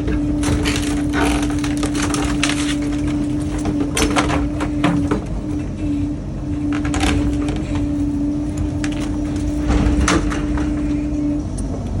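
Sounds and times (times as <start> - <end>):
demolition knocks and cracks: 0.0 - 5.6, 6.6 - 11.3
excavator engine rumbling: 0.0 - 12.0.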